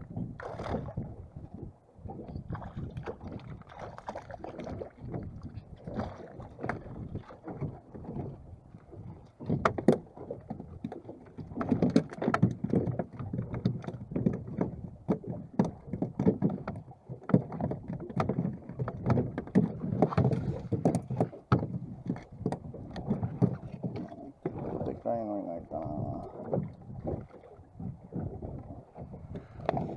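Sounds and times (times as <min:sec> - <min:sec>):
waves slapping boat hull: 0:00.0 - 0:29.9.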